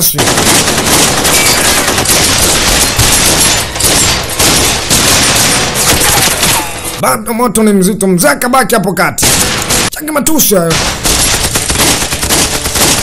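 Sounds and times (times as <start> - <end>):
heavy continuous gunfire: 0.0 - 7.0, 9.2 - 13.0.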